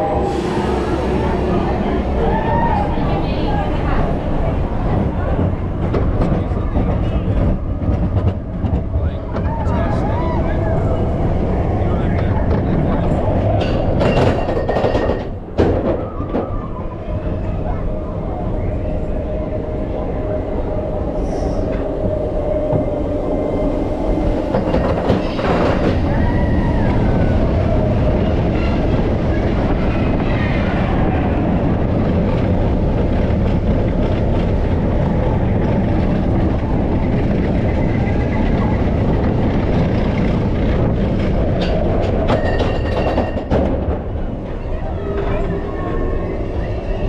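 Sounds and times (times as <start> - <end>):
track clattering: 0.0 - 18.0, 20.8 - 46.3
roller coaster wheels rumbling: 0.0 - 47.0.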